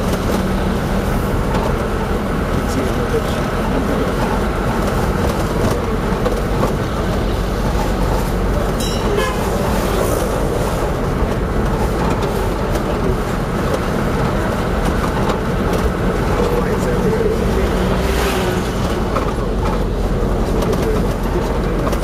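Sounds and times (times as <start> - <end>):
car engine and tyres on road: 0.0 - 22.0.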